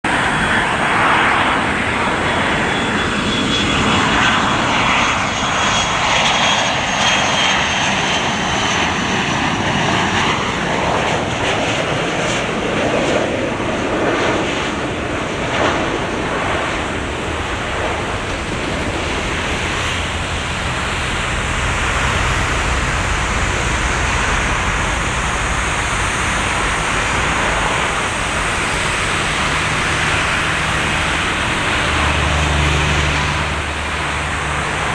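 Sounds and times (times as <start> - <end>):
deep jet rumble: 0.0 - 34.9
jet engines whining: 0.0 - 34.9.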